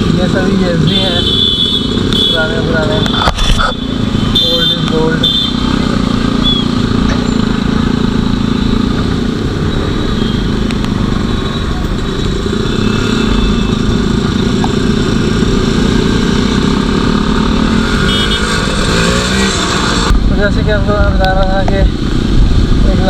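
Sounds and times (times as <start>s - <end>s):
motorcycle engine drone: 0.0s - 23.0s.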